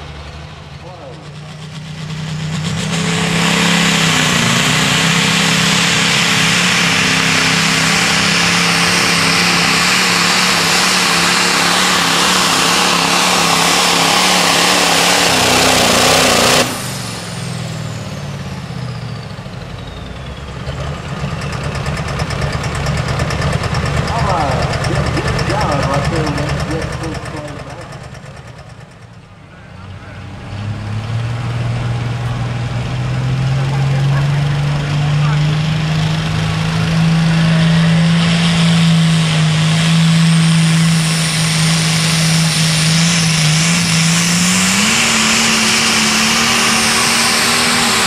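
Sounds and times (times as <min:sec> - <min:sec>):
diesel tractor engine under load: 0:00.0 - 0:48.0.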